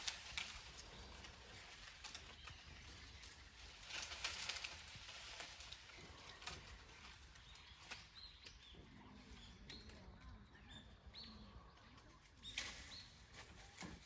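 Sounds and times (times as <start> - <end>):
dry leaves and twigs rustling: 0.0 - 14.0.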